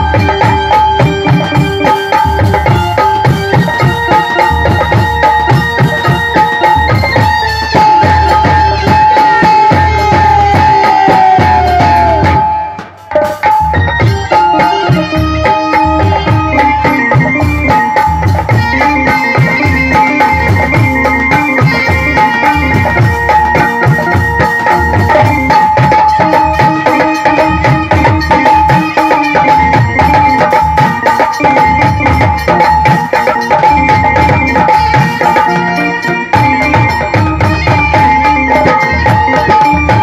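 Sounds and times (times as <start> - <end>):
fast hand drum playing: 0.0 - 40.0
held melody line: 0.0 - 40.0.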